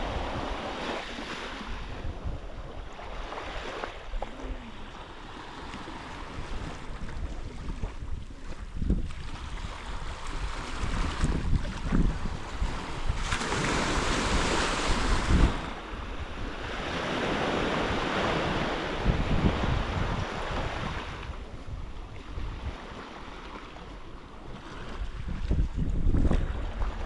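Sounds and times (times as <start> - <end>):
sea waves breaking on shore: 0.0 - 27.0
wind buffeting microphone: 0.0 - 27.0.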